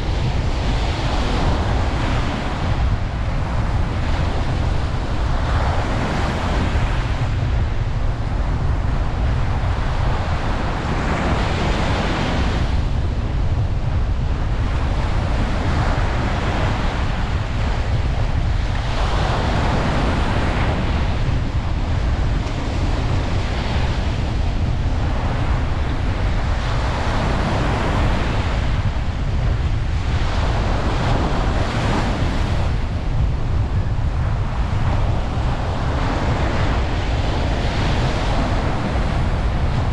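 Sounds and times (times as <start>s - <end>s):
ocean surf washing onto beach: 0.0s - 39.9s
steady low rumble: 0.0s - 39.9s.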